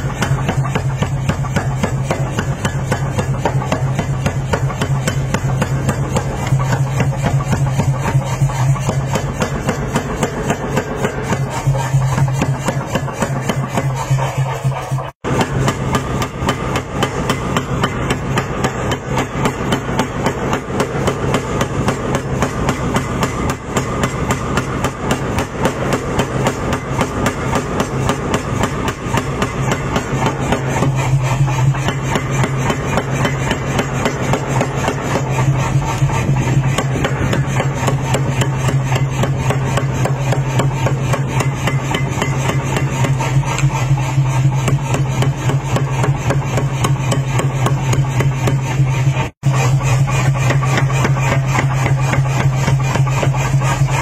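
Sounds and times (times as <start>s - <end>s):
power hammer striking steel: 0.0s - 54.0s.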